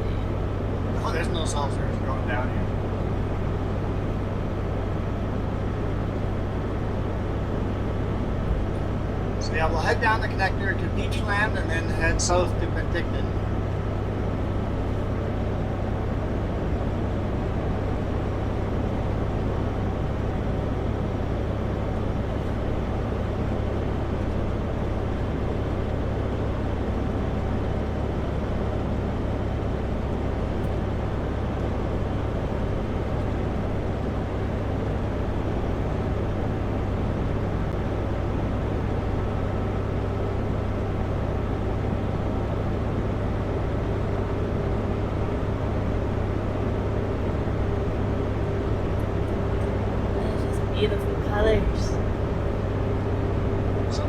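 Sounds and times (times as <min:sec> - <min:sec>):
road noise: 0:00.0 - 0:54.0
truck diesel engine drone: 0:00.0 - 0:54.0.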